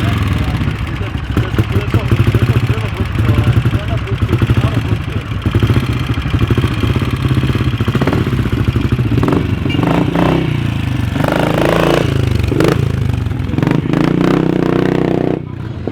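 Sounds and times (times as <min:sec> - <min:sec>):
motorcycle engines thudding: 0:00.0 - 0:15.9.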